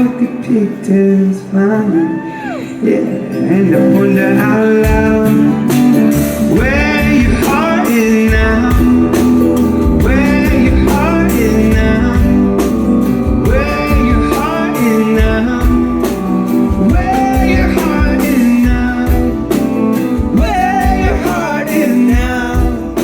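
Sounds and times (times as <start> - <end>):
person singing: 0.0 - 23.0
strummed guitar: 0.0 - 23.0.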